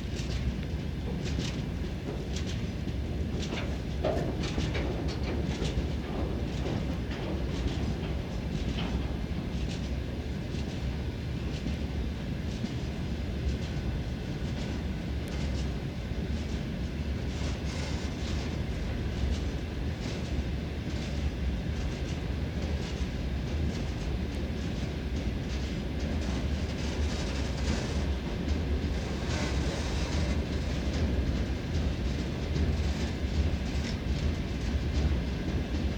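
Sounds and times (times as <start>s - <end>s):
freight train rumble: 0.0s - 35.9s.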